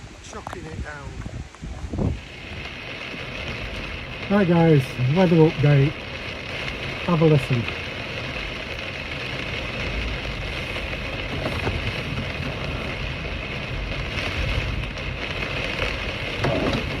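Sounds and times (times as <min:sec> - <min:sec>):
heavy rain on vehicle roof: 0:00.0 - 0:17.0
wind gusting: 0:00.0 - 0:17.0.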